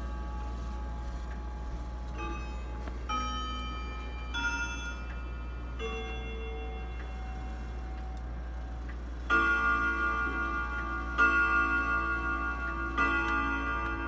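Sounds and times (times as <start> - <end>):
clock chime notes ringing: 0.0 - 14.0.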